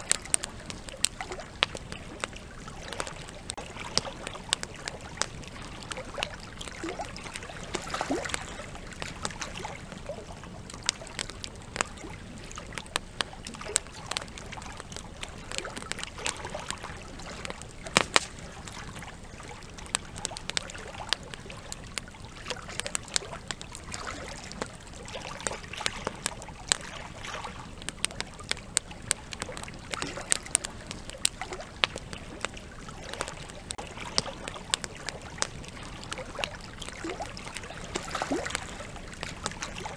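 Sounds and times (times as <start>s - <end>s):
campfire wood crackling: 0.0s - 39.9s.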